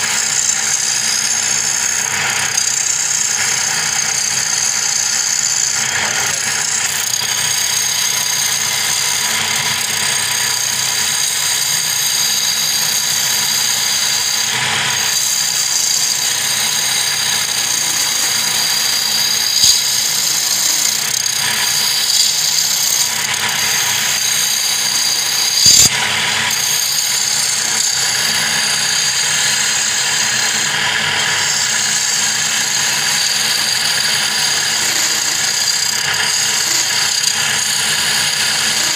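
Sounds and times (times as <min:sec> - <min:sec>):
chisel scraping spinning wood: 0:00.0 - 0:38.9
wood lathe running: 0:00.0 - 0:38.9.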